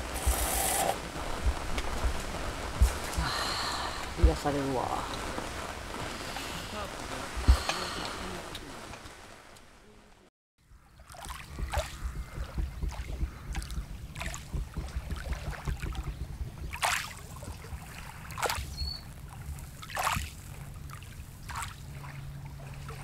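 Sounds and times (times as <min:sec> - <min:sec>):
wind on microphone: 0:00.0 - 0:09.6, 0:11.1 - 0:23.0
waves lapping on pebbles: 0:00.0 - 0:09.8, 0:11.0 - 0:23.0.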